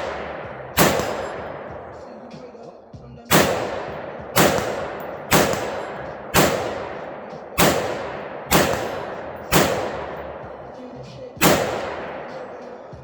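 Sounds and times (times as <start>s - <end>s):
rifle shots echoing: 0.0s - 13.0s.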